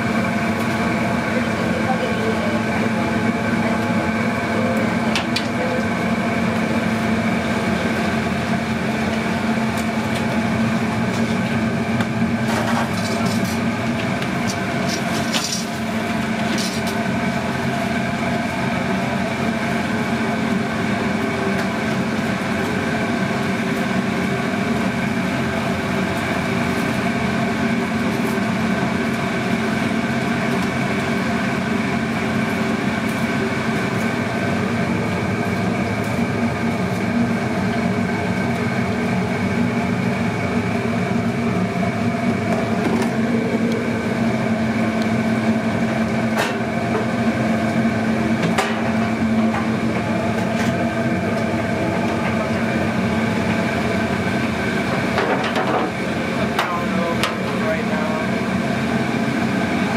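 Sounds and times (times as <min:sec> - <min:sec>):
grill burners and fan humming: 0:00.0 - 0:59.9
kitchen equipment drone: 0:00.0 - 0:59.9.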